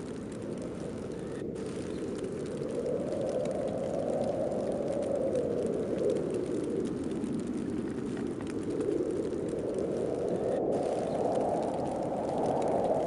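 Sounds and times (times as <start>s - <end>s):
snowstorm wind blowing: 0.0s - 13.0s.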